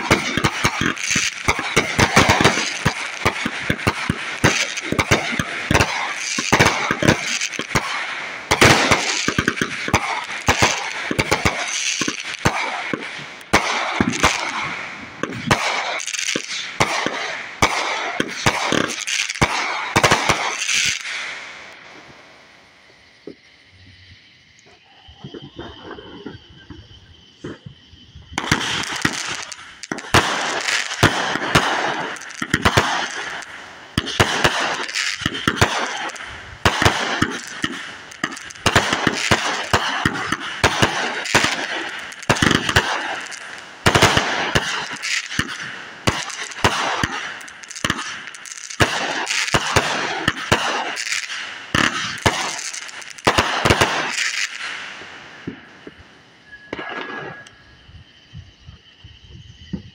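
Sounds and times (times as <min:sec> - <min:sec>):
firework launch and burst bangs: 0:00.0 - 0:22.2, 0:22.8 - 0:59.9
firework crackling hiss: 0:00.0 - 0:59.9.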